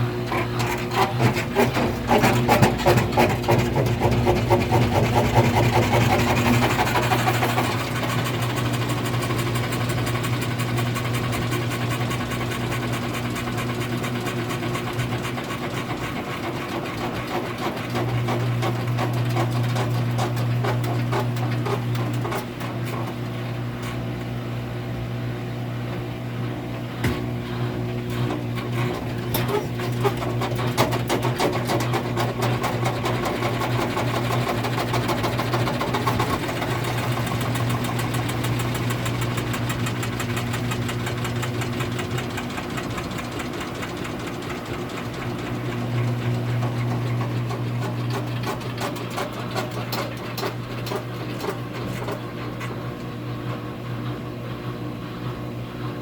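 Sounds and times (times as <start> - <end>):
machine low hum: 0.0 - 56.0.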